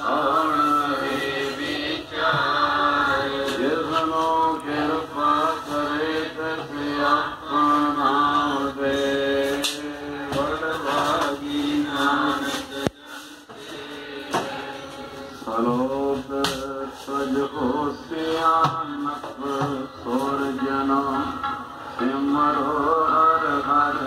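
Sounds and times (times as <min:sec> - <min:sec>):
person singing slow chant-like song: 0:00.0 - 0:24.0.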